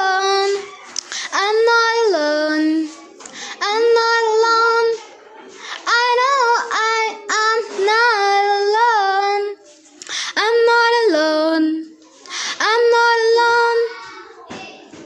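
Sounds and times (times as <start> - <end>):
child singing: 0.0 - 5.1, 5.8 - 9.6, 10.3 - 15.0.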